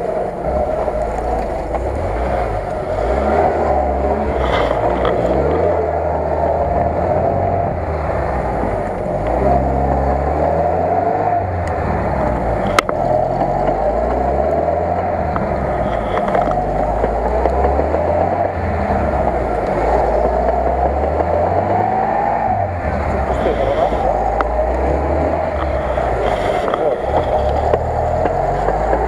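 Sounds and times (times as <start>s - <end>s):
engine revving under load: 0.0s - 29.0s.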